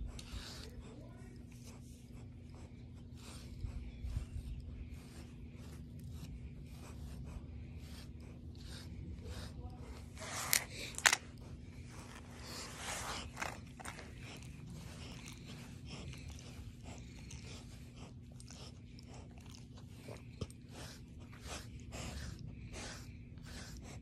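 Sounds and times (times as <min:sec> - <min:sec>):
comb raking through dog fur: 0:00.0 - 0:24.0.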